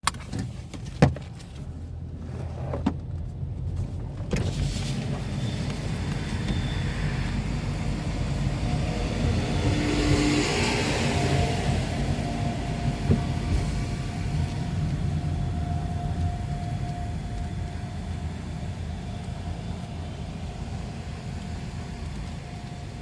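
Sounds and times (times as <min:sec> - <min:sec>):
car engine running: 0:00.0 - 0:23.0
car wash machinery rushing: 0:04.3 - 0:23.0.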